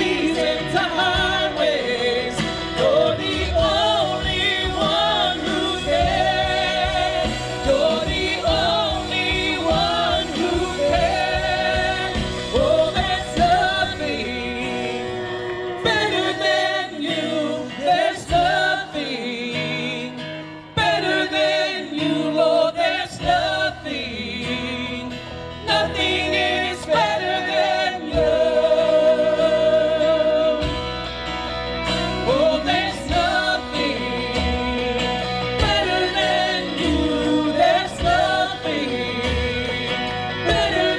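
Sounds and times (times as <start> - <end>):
live band playing: 0.0 - 40.9
worship team singing: 0.0 - 40.9.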